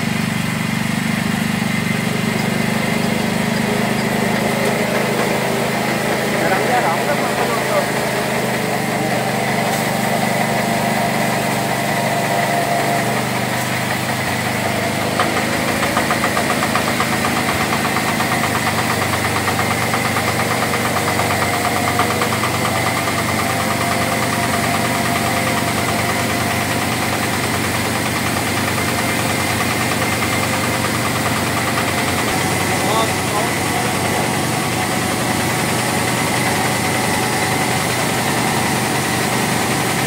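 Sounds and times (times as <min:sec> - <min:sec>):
diesel engine running: 0:00.0 - 0:40.0
fast even engine knock: 0:00.0 - 0:40.0
grinding mill: 0:00.0 - 0:40.0.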